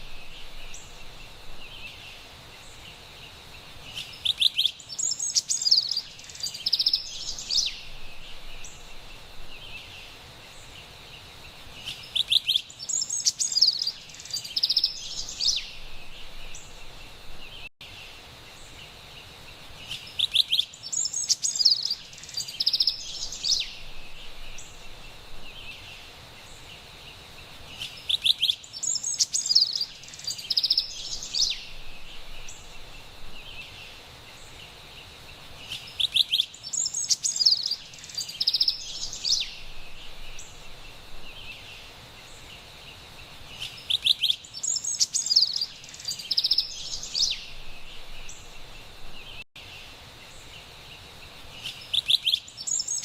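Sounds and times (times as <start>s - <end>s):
faint high hiss: 0.0s - 53.0s
wren singing: 3.8s - 17.7s, 19.8s - 26.8s, 27.7s - 53.0s.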